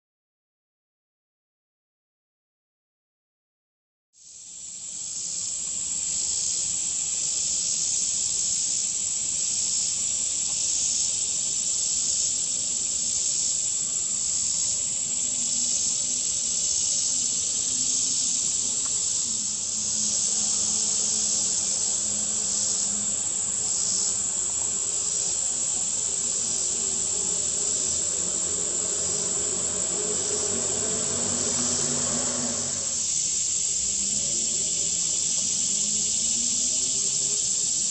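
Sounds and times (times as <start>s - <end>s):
insects chirring: 4.2s - 37.9s.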